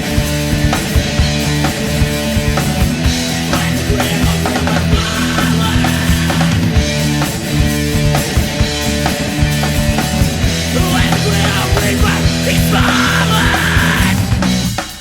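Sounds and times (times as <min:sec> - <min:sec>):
bass guitar chords: 0:00.0 - 0:15.0
busy drum kit: 0:00.0 - 0:15.0
distorted electric guitars: 0:00.0 - 0:15.0.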